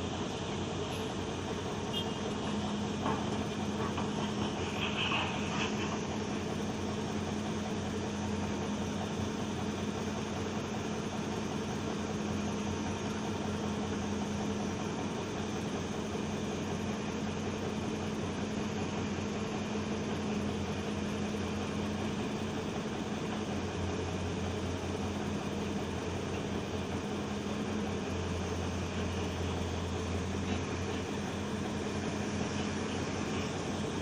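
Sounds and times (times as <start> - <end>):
heavy machine engine humming: 0.0 - 34.0.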